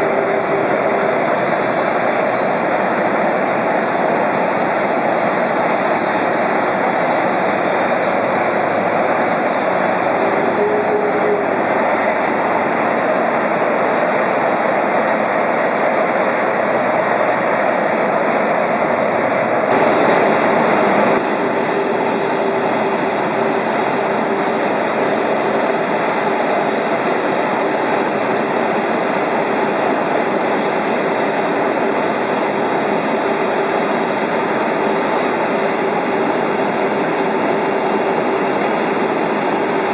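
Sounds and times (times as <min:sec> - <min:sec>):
faint steady whine: 0:00.0 - 0:39.9
jet engines rushing: 0:00.0 - 0:39.9.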